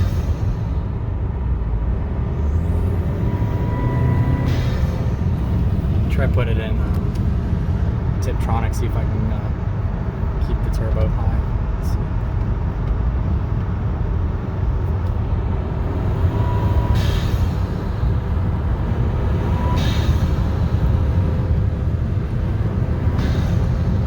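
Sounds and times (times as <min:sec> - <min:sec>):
car engine pulling under load: 0:00.0 - 0:24.0.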